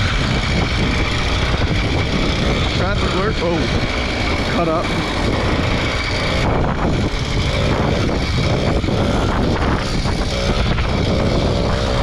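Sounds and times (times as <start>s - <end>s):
two-stroke bicycle engine running: 0.0s - 12.0s
wind buffeting microphone: 0.0s - 12.0s.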